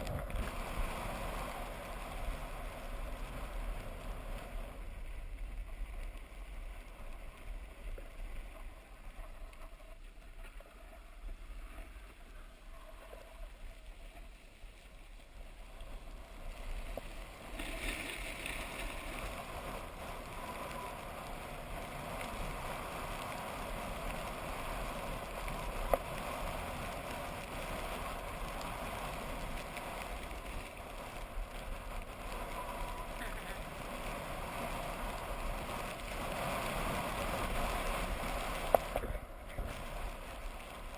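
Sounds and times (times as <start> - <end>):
skis scraping on snow: 0.0 - 40.9.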